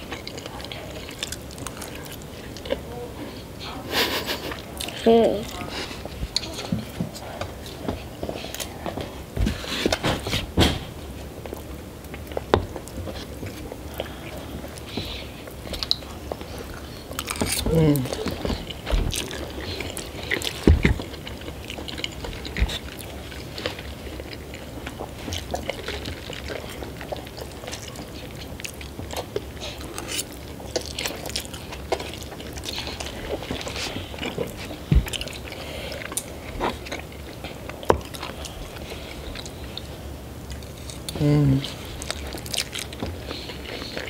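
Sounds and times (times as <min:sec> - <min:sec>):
people chewing and slurping noodles: 0:00.0 - 0:44.0.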